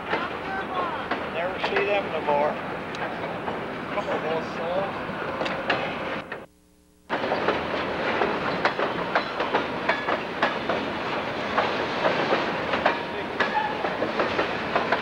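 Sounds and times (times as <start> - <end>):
train wheels clattering over rail joints: 0.0 - 4.4, 5.4 - 6.0, 7.1 - 15.0.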